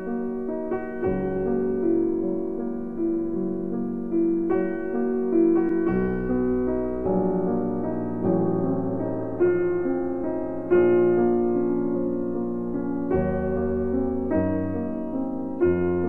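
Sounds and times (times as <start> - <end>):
soft piano melody: 0.0 - 16.0.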